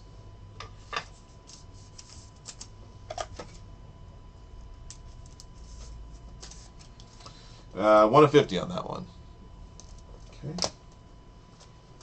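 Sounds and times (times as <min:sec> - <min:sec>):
faint hum with high tone: 0:00.0 - 0:12.0.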